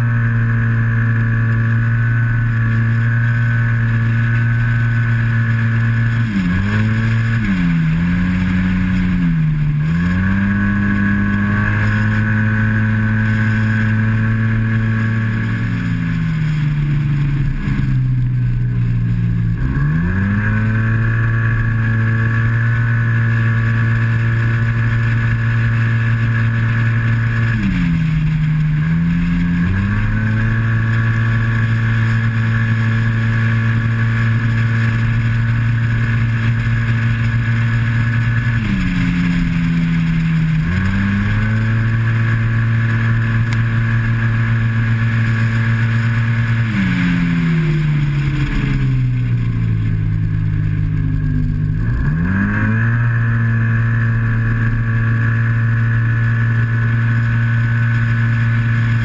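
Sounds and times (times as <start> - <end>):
scooter engine at high revs: 0.0 - 59.0.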